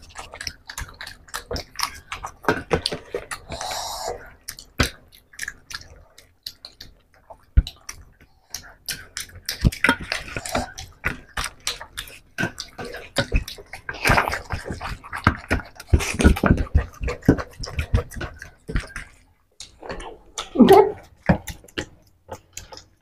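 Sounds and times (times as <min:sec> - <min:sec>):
hands squelching food: 0:00.0 - 0:23.0
open-mouthed chewing: 0:00.0 - 0:23.0.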